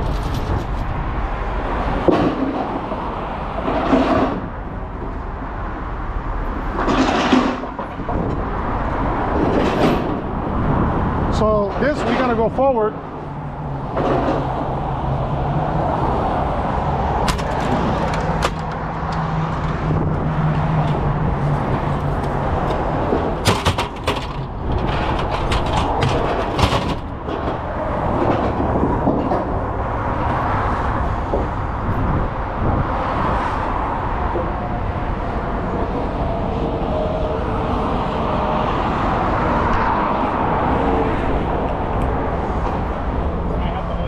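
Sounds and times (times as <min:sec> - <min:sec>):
heavy vehicle engines running: 0:00.0 - 0:44.0
road traffic: 0:00.0 - 0:44.0.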